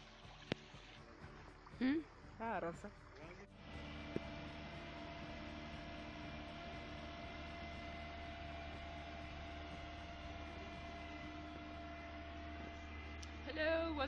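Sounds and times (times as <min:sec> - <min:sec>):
steady hum with tones: 0:00.0 - 0:14.0.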